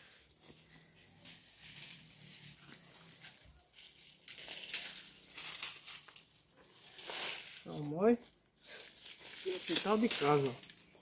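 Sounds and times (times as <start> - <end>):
dry plants rustling and crackling: 0.0 - 11.0.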